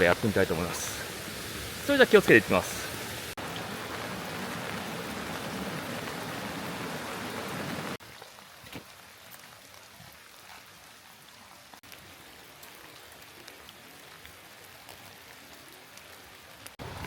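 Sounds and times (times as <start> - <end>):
rain falling: 0.0 - 17.0
raindrops ticking close by: 0.0 - 17.0.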